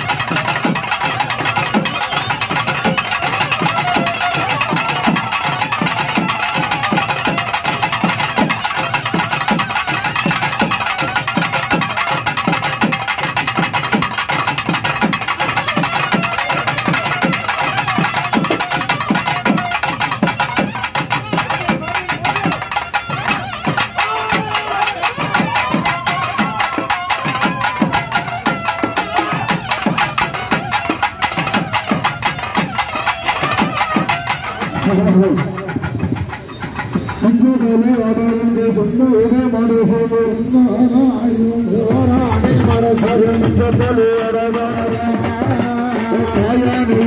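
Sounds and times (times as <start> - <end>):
fast dense drumming: 0.0 - 38.5, 41.8 - 47.0.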